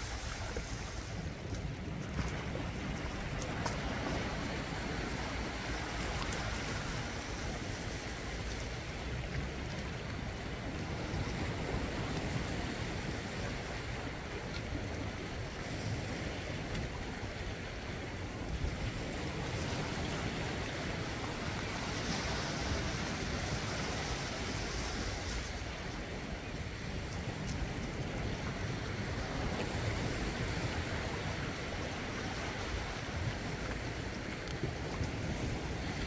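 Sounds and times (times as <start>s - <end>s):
sea waves washing over rocks: 0.0s - 36.0s
wind rumbling on microphone: 0.0s - 36.0s.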